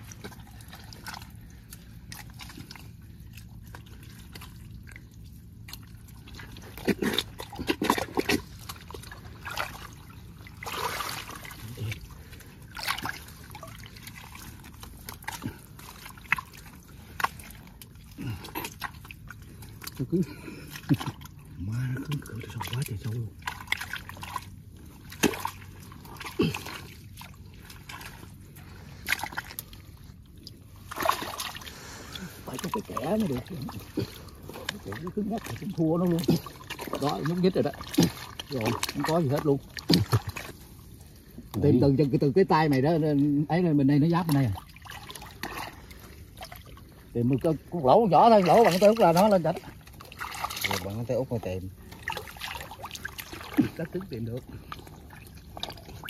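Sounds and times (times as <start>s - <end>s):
water plops: 0.0s - 41.7s, 44.1s - 47.1s, 48.2s - 56.0s
mud squelching and sloshing: 0.0s - 56.0s.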